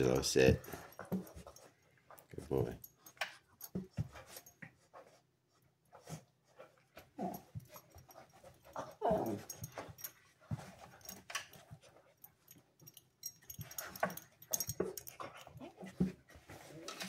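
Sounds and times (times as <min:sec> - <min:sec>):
dog play noises: 0:00.0 - 0:17.0.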